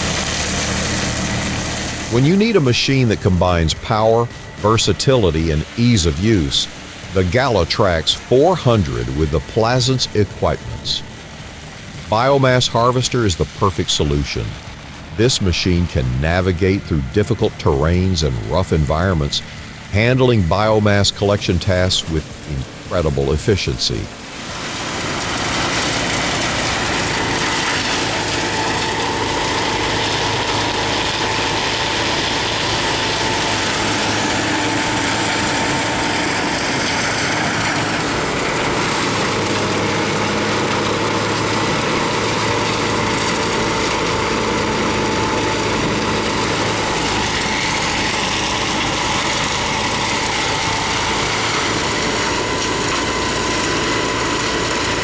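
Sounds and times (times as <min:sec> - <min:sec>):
harvester engine with whine: 0:00.0 - 0:55.0.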